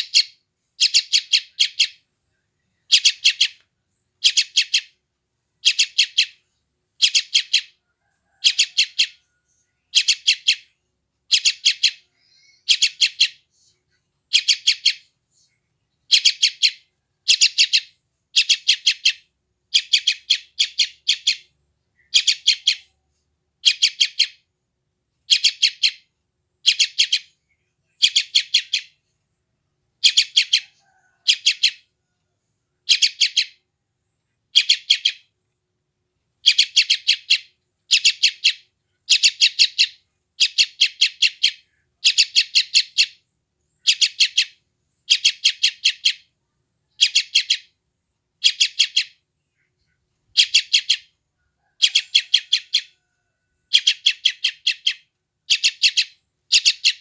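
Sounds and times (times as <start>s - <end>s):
bird chick begging chirps: 0.0s - 2.0s, 2.8s - 3.6s, 4.2s - 5.0s, 5.6s - 6.4s, 7.0s - 10.7s, 11.3s - 13.5s, 14.3s - 15.2s, 16.0s - 23.0s, 23.6s - 24.5s, 25.2s - 29.0s, 30.0s - 32.2s, 32.8s - 33.6s, 34.5s - 35.3s, 36.4s - 47.8s, 48.4s - 57.0s.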